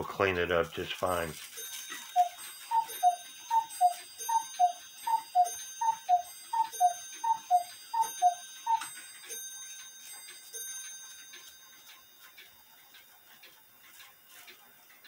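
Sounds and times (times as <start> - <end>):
faint clock ticking: 0.0 - 15.0
cuckoo clock calling: 1.0 - 15.0.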